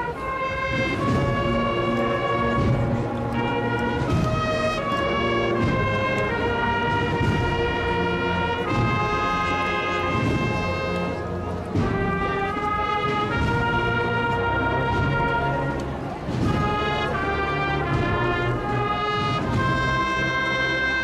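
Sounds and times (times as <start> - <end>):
brass band playing march: 0.0 - 21.0.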